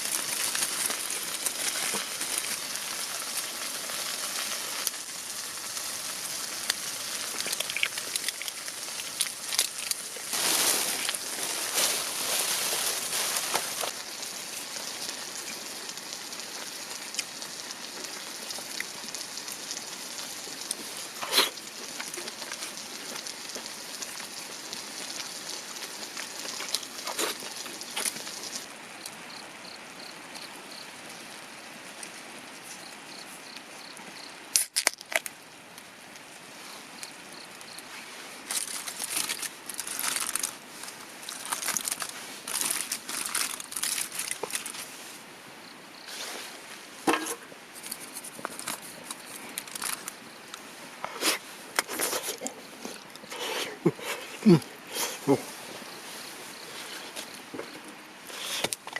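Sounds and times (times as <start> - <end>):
crinkling: 0.0 - 28.7, 34.6 - 35.4, 37.0 - 45.1, 46.0 - 58.9.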